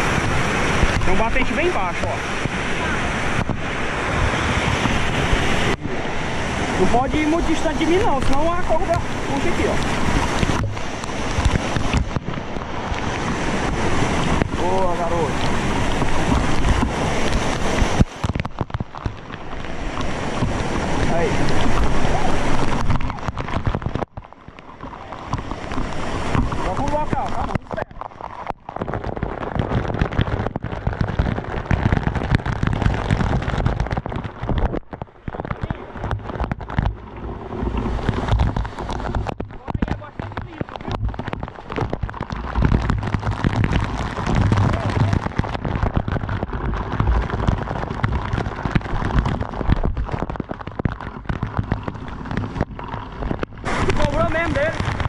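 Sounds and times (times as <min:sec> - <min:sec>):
water splashing onto microphone: 0:00.0 - 0:55.0.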